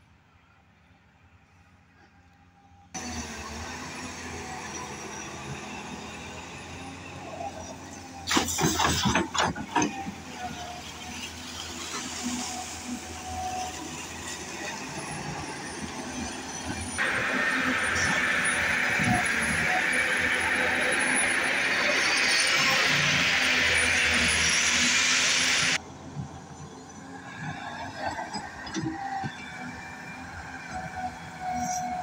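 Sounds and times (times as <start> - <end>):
diesel engine running: 3.0 - 32.0.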